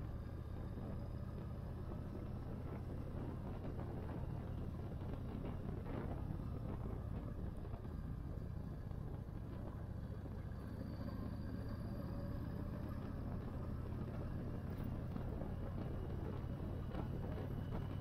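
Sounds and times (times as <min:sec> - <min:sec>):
motorcycle engine running: 0:00.0 - 0:18.0
road and wind noise: 0:00.0 - 0:18.0.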